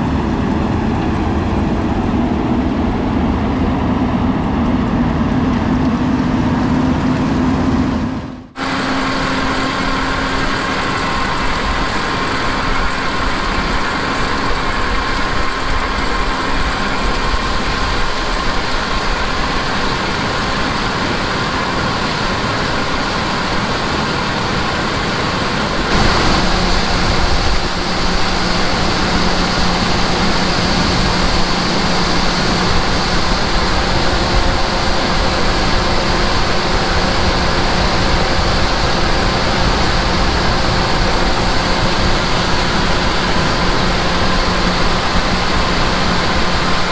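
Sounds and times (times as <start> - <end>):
heavy farm machinery running: 0.0 - 46.9
steady low hum: 0.0 - 46.9.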